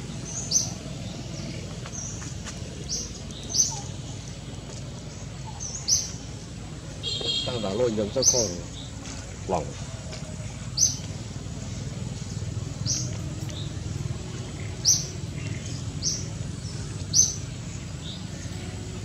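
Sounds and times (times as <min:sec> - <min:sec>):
bird chirping: 0:00.0 - 0:09.8, 0:10.4 - 0:18.8.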